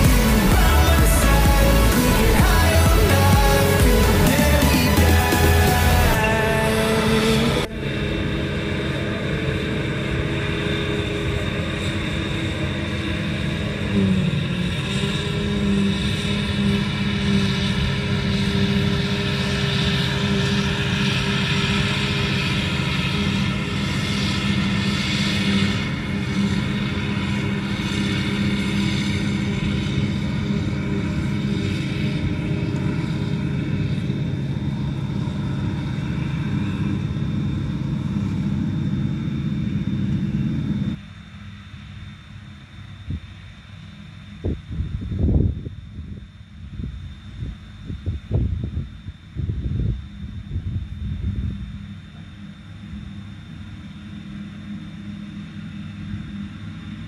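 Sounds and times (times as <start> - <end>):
motors droning: 0.0 - 57.0.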